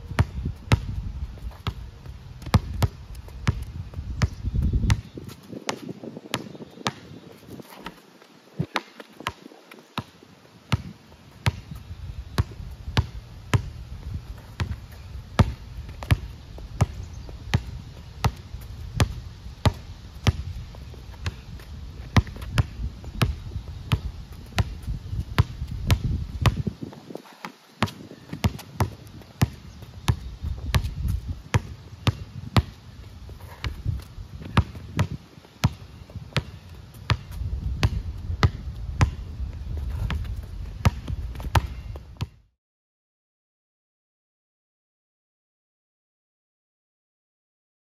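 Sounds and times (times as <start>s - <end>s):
basketball bouncing on concrete: 0.1s - 8.0s, 8.6s - 26.8s, 27.4s - 42.4s.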